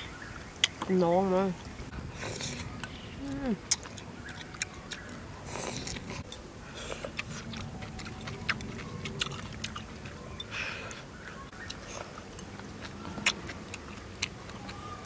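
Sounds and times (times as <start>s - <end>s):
chewing and mouth smacking: 1.6s - 15.0s.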